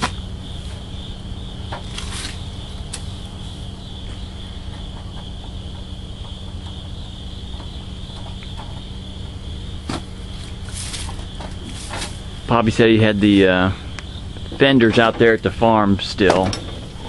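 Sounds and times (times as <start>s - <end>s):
insects droning: 0.0s - 17.0s
low rumble: 0.0s - 17.0s.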